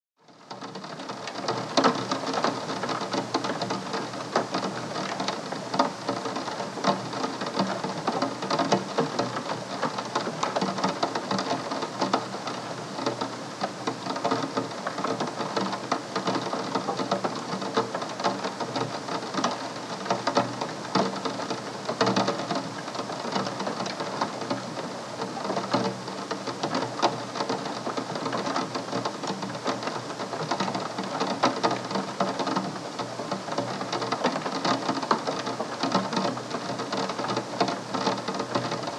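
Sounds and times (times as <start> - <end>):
steady rain falling: 0.2 - 38.9.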